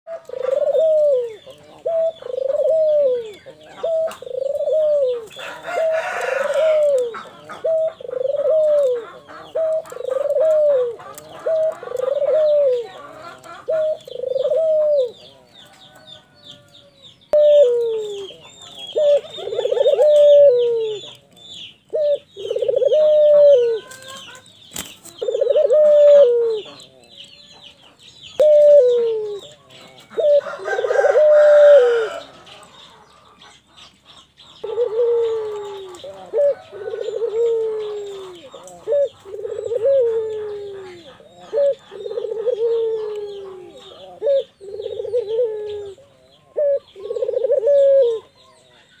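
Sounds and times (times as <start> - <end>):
dove cooing: 0.1 - 16.7, 17.3 - 27.8, 28.4 - 49.0
small birds chirping: 0.1 - 49.0.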